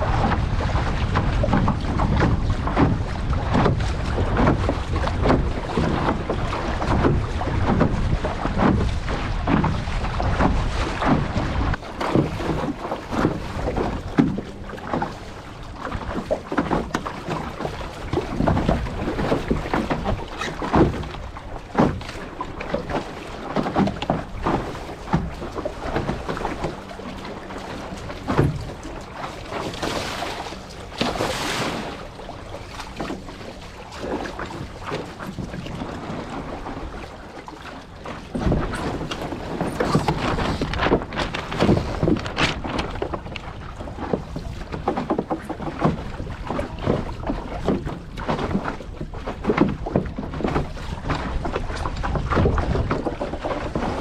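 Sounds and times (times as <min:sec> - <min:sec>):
water splashing against boat hull: 0:00.0 - 0:54.0
wind buffeting microphone: 0:00.0 - 0:54.0.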